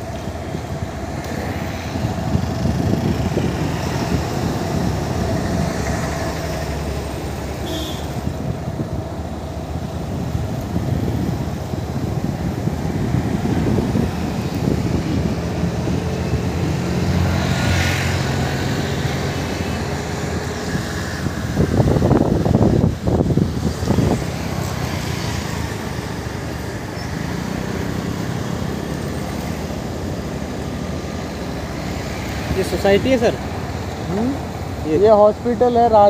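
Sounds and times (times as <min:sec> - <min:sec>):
motorbike engine cruising: 0:00.0 - 0:36.0
tyre and traffic noise: 0:00.0 - 0:36.0.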